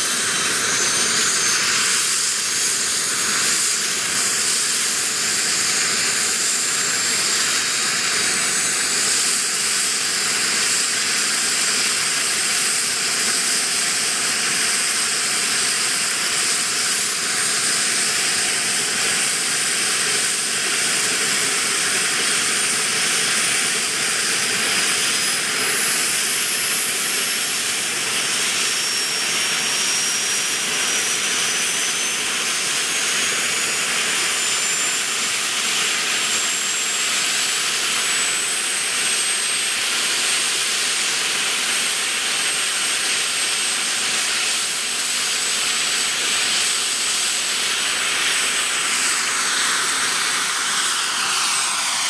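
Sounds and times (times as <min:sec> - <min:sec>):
model turbine engine whining: 0:00.0 - 0:52.0.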